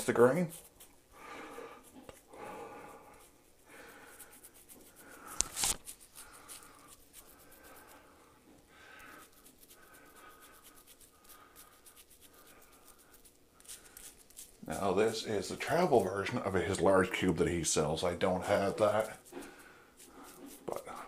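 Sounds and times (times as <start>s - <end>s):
soap bar scratching on stubble: 0.0s - 1.0s, 3.0s - 8.1s, 9.0s - 17.5s, 18.1s - 21.0s.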